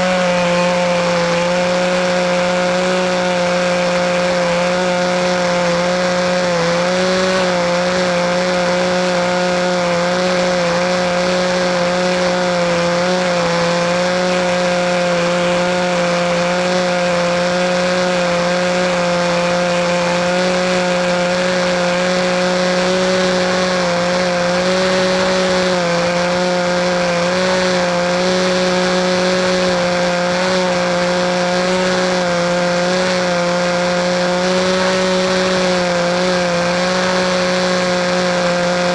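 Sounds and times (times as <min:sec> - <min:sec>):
model airplane engine running: 0:00.0 - 0:38.9.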